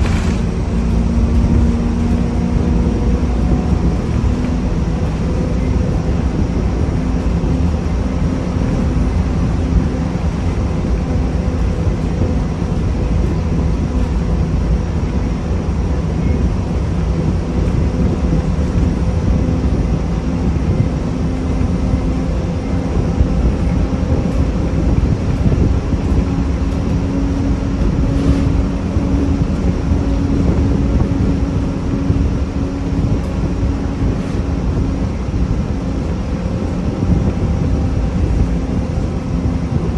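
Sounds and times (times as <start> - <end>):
bus engine hum and rumble: 0.0 - 39.9.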